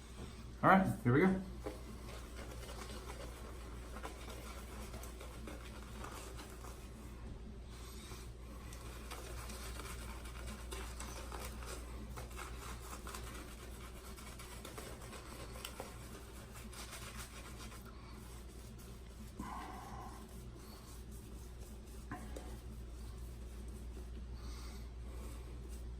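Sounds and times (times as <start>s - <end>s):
shaving brush rubbing lather: 1.3s - 7.2s, 7.9s - 24.3s.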